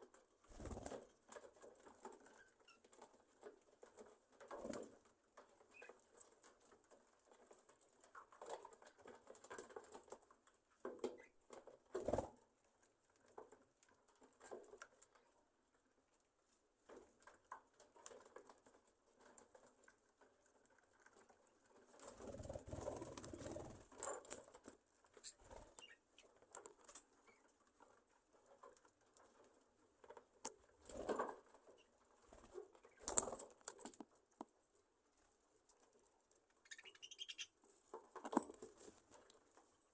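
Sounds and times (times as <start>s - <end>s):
birds rustling and scratching: 0.0s - 39.9s.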